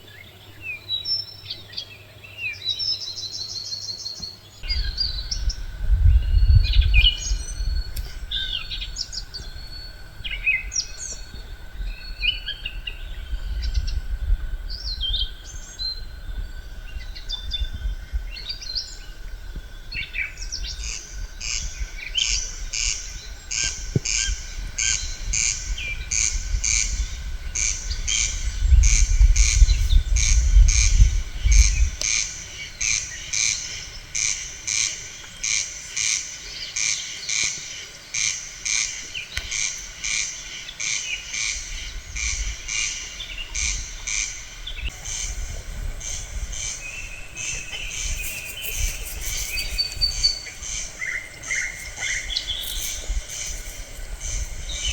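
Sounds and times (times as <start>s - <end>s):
birds calling: 0.0s - 54.9s
wind rumble on microphone: 4.6s - 35.6s, 41.1s - 54.9s.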